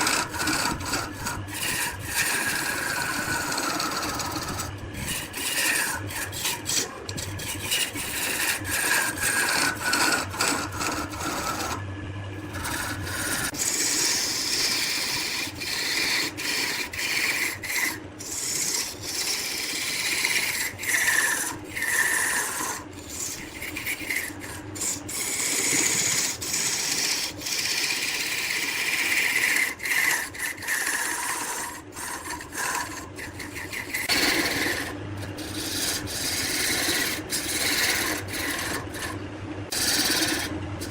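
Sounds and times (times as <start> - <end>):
wood turning on a lathe: 0.0 - 40.9.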